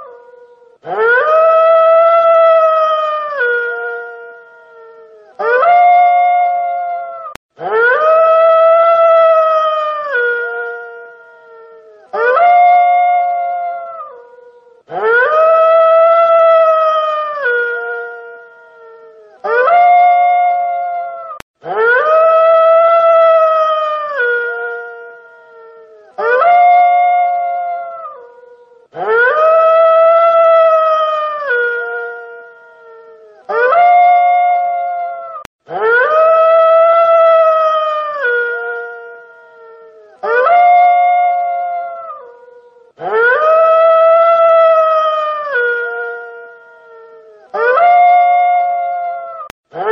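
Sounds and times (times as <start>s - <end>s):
wolf howling: 0.0s - 49.9s.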